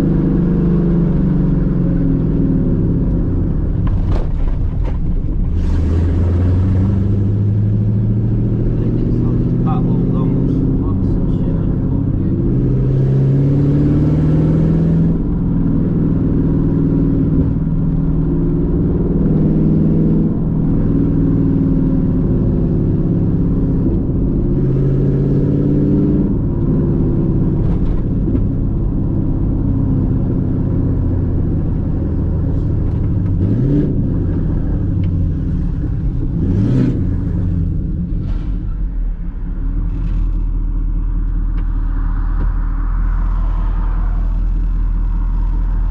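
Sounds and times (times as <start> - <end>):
car engine shifting through gears: 0.0 - 45.9.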